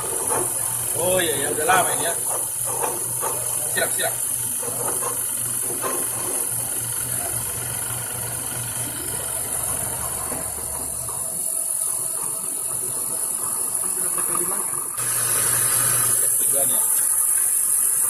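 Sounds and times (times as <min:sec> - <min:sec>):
lathe machine hum: 0:00.0 - 0:18.0.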